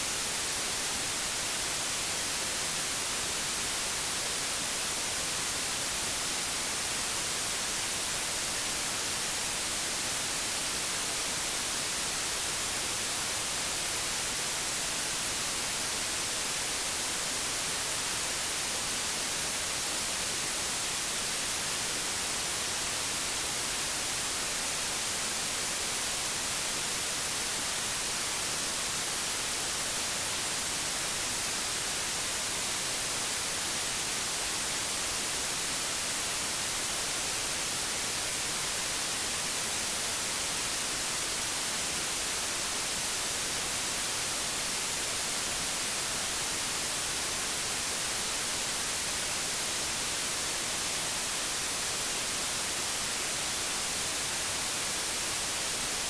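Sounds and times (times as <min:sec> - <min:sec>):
television static hiss: 0:00.0 - 0:56.0.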